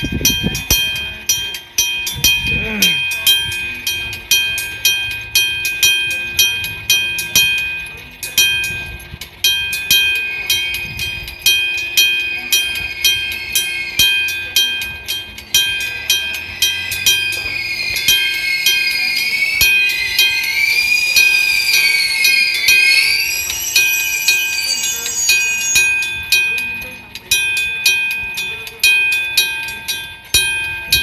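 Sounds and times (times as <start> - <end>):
level crossing bell gong strikes: 0.0 - 31.0
wavering high whine: 0.0 - 31.0.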